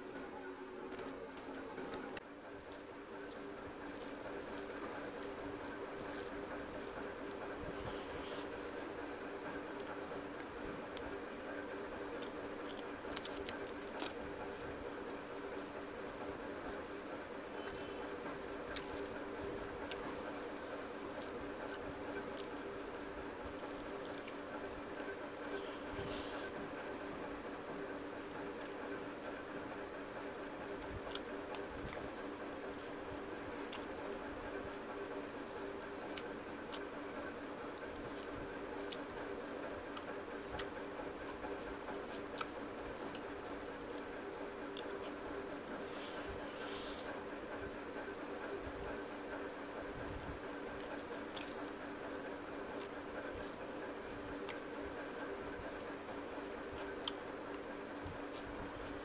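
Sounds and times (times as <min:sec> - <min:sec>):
background hum: 0:00.0 - 0:59.0
soft wet chewing: 0:00.1 - 0:59.0
fingers squishing rice: 0:00.9 - 0:59.0.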